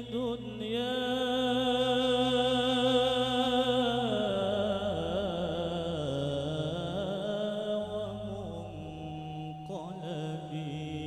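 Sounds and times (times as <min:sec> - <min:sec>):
low steady drone note: 0:00.0 - 0:11.0
man singing devotional song: 0:00.0 - 0:11.0.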